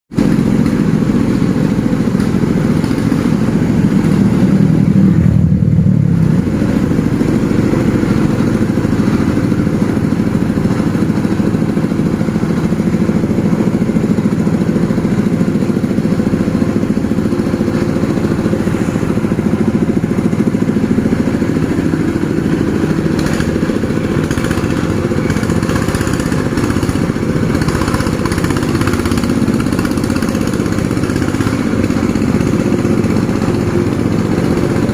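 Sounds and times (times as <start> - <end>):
motorcycle engine: 0.1 - 34.9
vehicle engines climbing uphill: 0.1 - 34.9.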